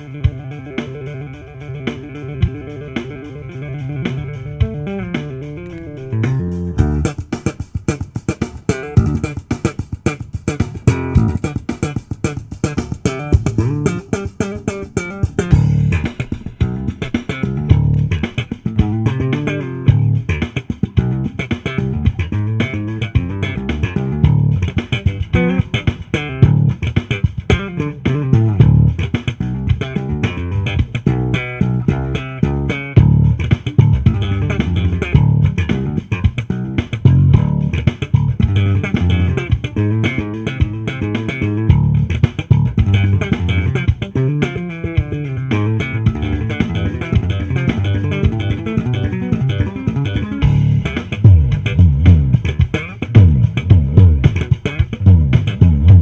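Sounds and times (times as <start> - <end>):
music with bass guitar: 0.0 - 56.0.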